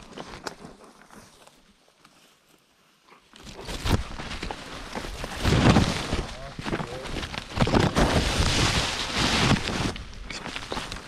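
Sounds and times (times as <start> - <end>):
footsteps on forest floor: 0.0 - 11.0
rustling: 0.0 - 11.0.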